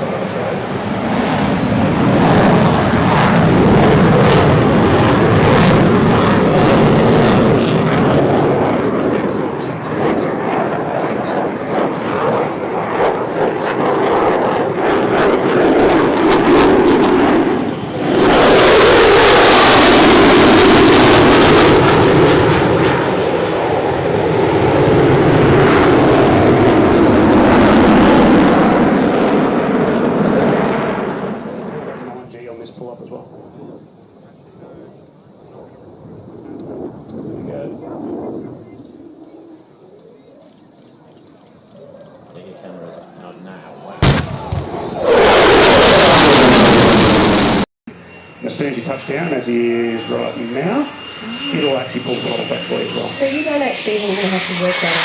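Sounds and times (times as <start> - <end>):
loud jet engine: 0.0 - 40.0, 41.6 - 55.0.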